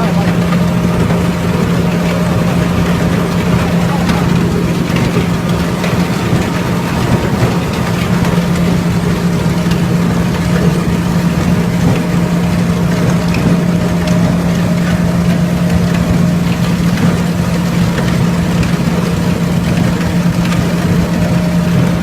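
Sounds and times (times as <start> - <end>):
grinding mill industrial hum: 0.0 - 22.0.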